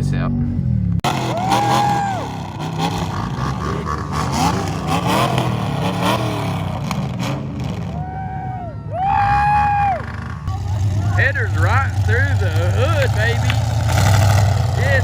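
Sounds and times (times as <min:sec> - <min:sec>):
vehicle engines revving: 0:00.0 - 0:15.0.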